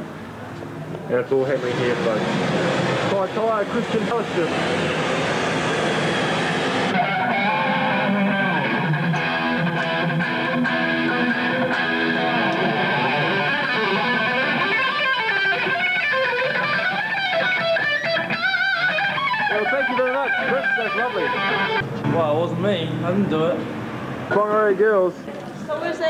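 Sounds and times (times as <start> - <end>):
electric guitar playing: 1.6 - 24.5.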